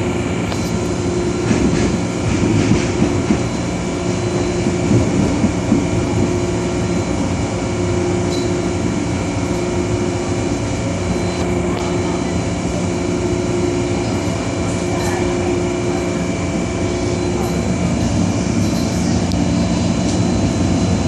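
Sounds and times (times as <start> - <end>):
metro train rumbling on board: 0.0 - 21.0.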